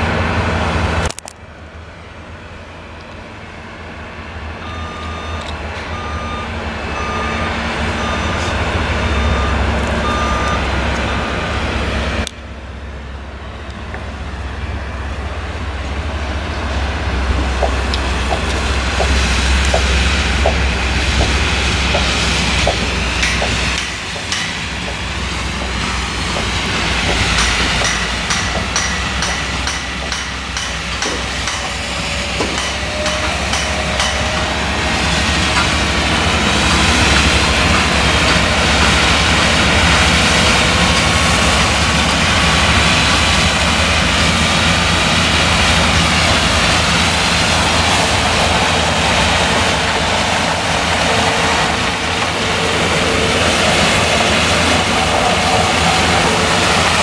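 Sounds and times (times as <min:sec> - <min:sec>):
combine harvester roaring: 0:00.0 - 0:57.0.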